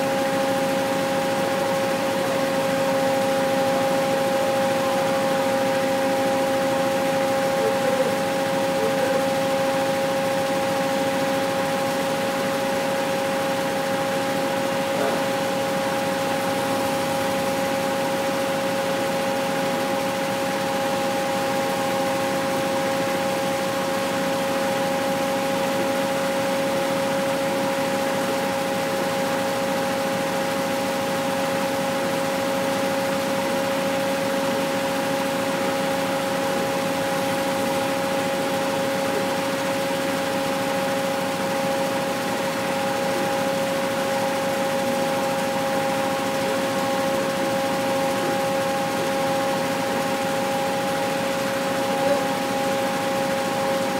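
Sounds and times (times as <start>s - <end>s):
decorticating machine humming: 0.0s - 53.9s.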